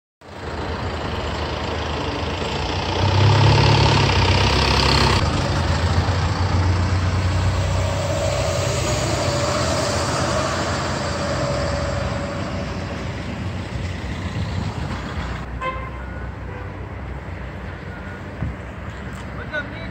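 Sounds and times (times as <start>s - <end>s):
minibus engine running: 0.2s - 19.9s
street traffic: 0.2s - 19.9s.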